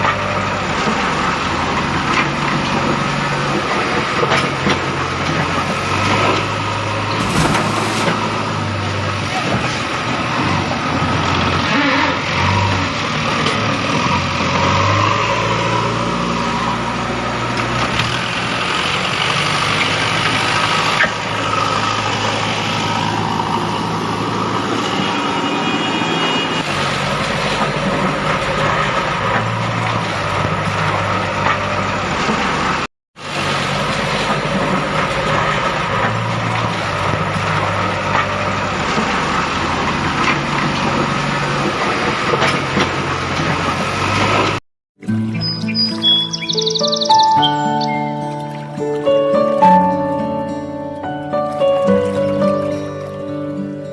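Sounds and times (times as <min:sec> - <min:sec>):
truck engine running: 0:00.0 - 0:50.3.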